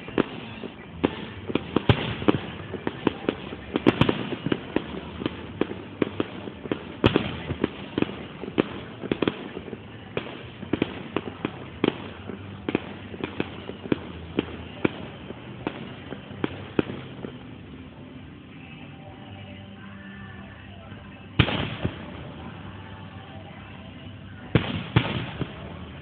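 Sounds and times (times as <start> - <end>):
fireworks bangs and pops: 0.0 - 19.5, 21.3 - 26.0.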